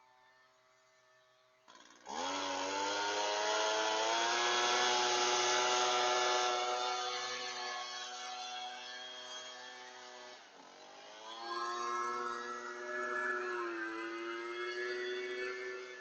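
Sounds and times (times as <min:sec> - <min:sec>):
small gasoline engine revving: 0:01.7 - 0:16.0.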